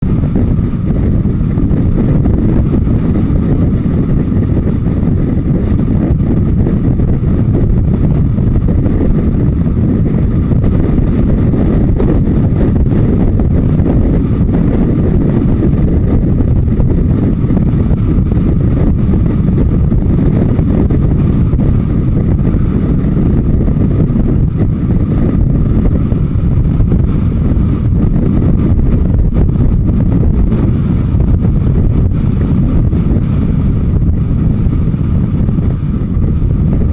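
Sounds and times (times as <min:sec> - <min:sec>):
motorcycle engine running: 0:00.0 - 0:36.9
wind noise on microphone: 0:00.0 - 0:36.9.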